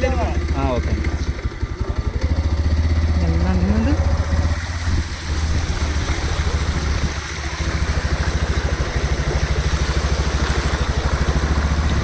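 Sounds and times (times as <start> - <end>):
motorcycle engine running: 0.0 - 12.0
water splashing and rushing: 0.0 - 12.0.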